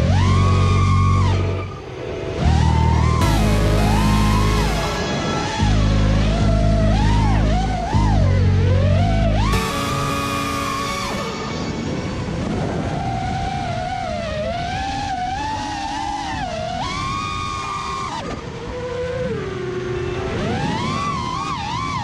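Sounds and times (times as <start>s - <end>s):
drone motors whining: 0.0s - 22.0s
wind rushing: 1.2s - 7.9s, 9.5s - 22.0s.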